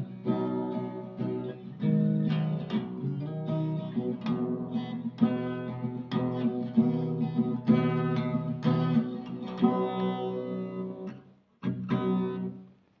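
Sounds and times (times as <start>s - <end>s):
acoustic guitar strumming chords: 0.0s - 12.7s.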